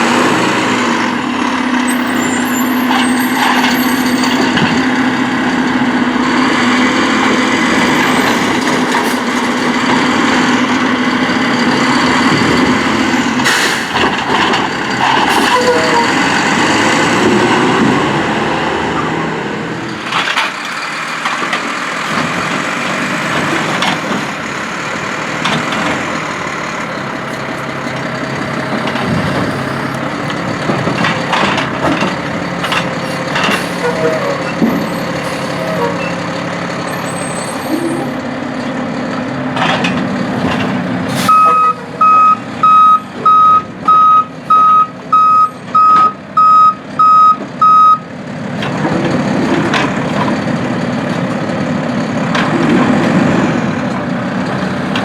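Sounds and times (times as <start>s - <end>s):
garbage truck engine and hydraulics: 0.0s - 55.0s.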